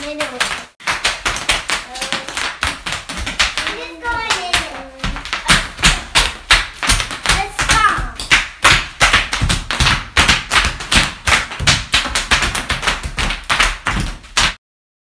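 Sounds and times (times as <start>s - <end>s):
feet stomping and jumping: 0.0s - 14.6s.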